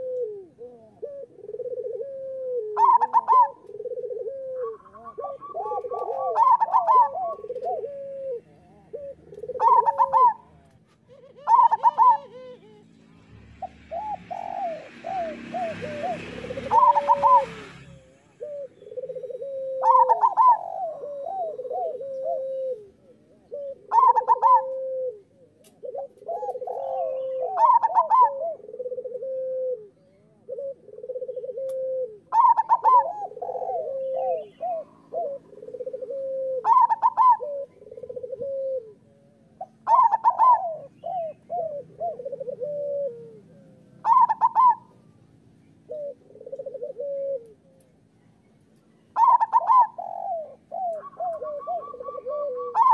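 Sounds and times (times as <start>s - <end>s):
dove cooing: 0.0s - 13.0s, 13.6s - 48.3s, 48.9s - 52.9s.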